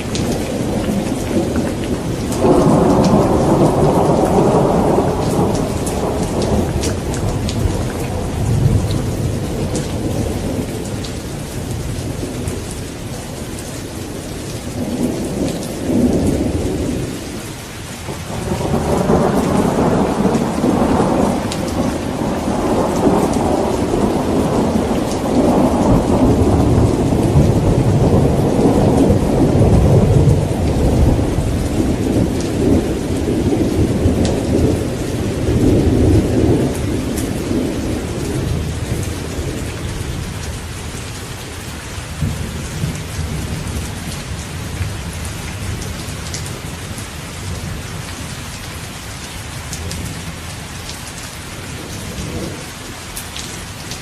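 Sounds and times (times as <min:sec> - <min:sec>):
rolling thunder: 0:00.0 - 0:17.4, 0:18.1 - 0:48.3, 0:51.6 - 0:52.8
steady rain pattering: 0:00.0 - 0:54.0.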